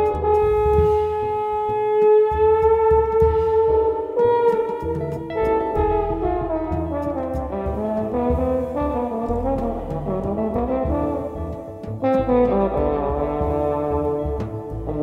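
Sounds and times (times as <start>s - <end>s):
double bass: 0.0s - 15.0s
guitar: 0.0s - 15.0s
trombone melody: 0.0s - 15.0s.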